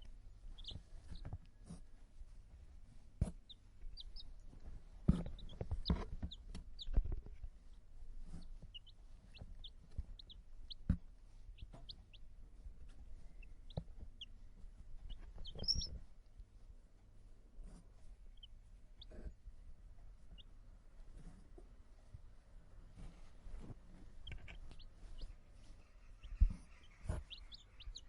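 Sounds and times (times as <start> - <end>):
chicks peeping: 0.0 - 1.8, 3.2 - 16.1, 17.6 - 19.4, 20.2 - 21.5, 23.0 - 28.0.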